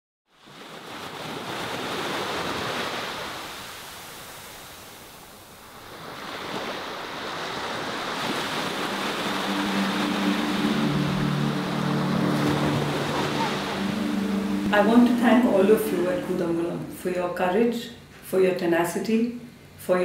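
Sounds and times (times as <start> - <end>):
sea waves washing on shore: 0.3 - 16.8.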